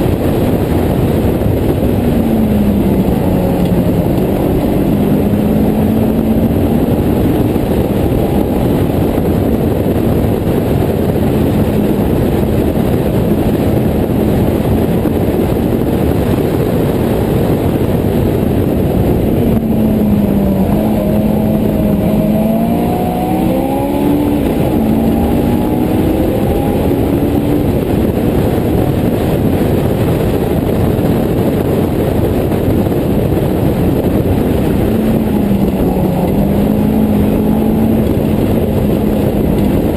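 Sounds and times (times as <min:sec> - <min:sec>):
race car engine: 0:00.0 - 0:39.9
wind rush over open cockpit: 0:00.0 - 0:39.9.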